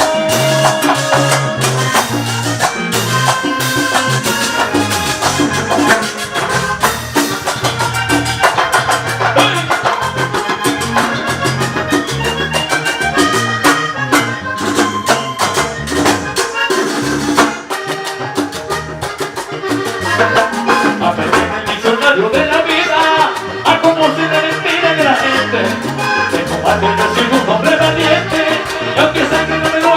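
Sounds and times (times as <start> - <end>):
instrumental salsa music: 0.0 - 29.9.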